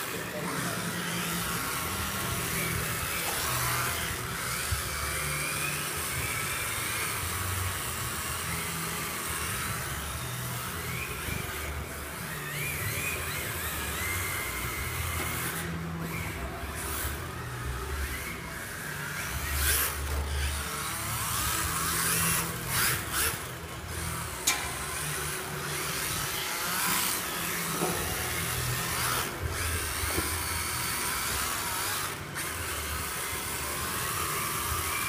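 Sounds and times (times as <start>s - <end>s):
rc car electric motors whining: 0.0s - 35.0s.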